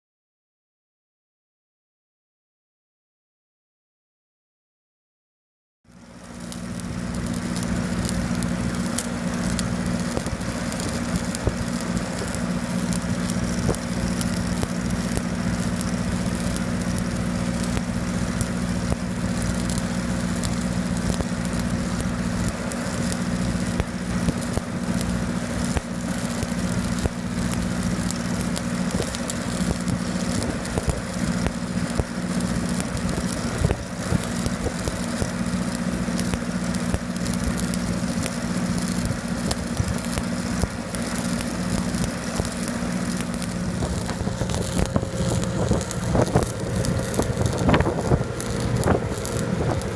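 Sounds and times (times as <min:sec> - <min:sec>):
welding arc crackling: 0:05.9 - 0:49.9
welding machine engine hum: 0:05.9 - 0:49.9.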